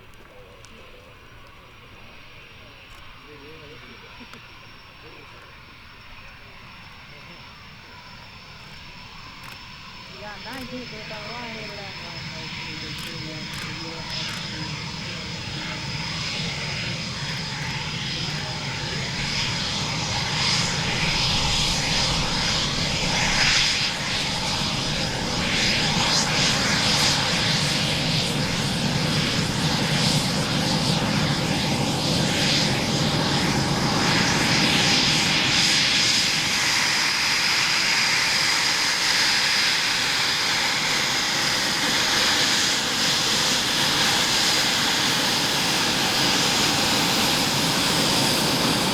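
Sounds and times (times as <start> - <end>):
jet engine roar with crackle: 0.0 - 48.9.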